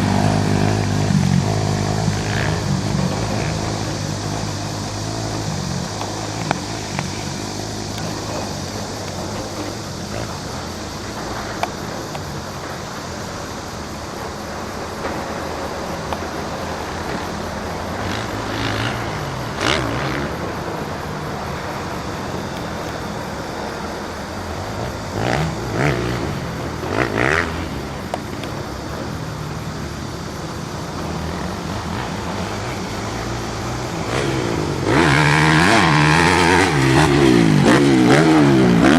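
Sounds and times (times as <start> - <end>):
motocross motorcycle engines running: 0.0 - 38.9.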